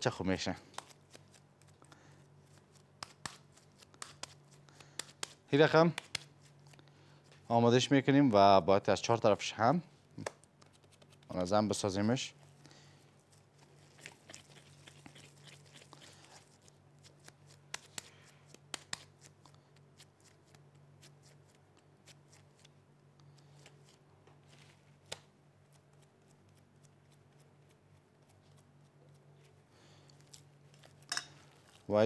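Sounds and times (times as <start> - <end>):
low steady hum: 0.0 - 32.0
gloved hands rustling: 0.4 - 7.5, 10.1 - 32.0.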